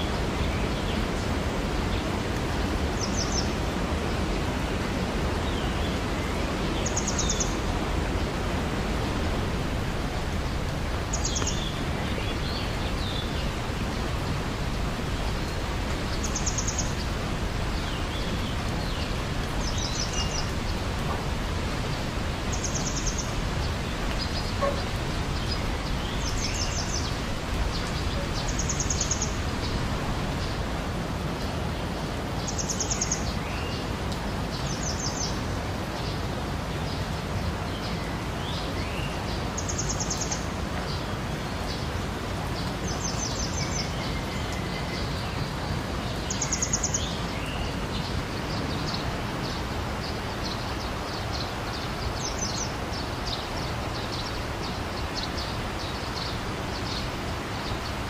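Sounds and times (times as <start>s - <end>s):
flowing water rushing: 0.0s - 58.0s
songbird chirps: 0.0s - 58.0s.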